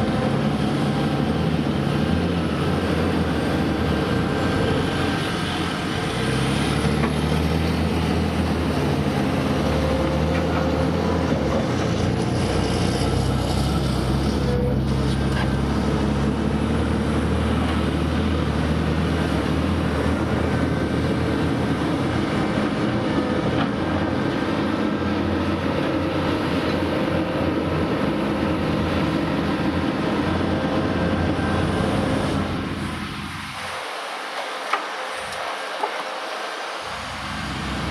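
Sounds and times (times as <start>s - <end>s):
heavy diesel engines droning: 0.0s - 37.9s.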